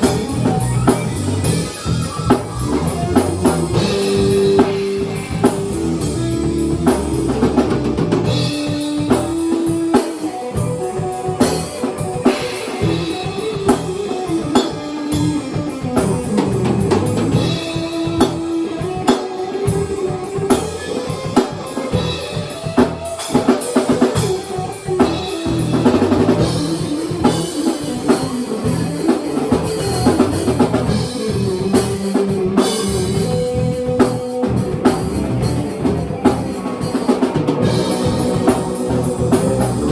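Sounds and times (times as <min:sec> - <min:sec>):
drum kit beat: 0:00.0 - 0:39.9
held melodic notes: 0:00.0 - 0:39.9.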